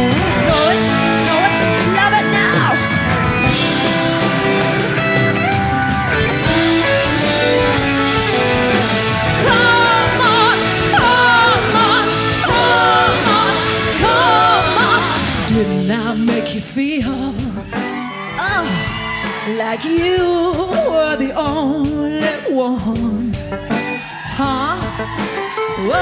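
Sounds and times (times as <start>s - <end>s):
rock music with singing: 0.0s - 26.0s.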